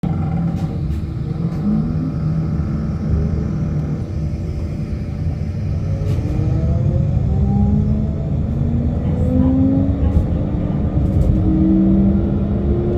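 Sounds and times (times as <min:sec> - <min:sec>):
electric bus motor whining: 0:00.1 - 0:12.9.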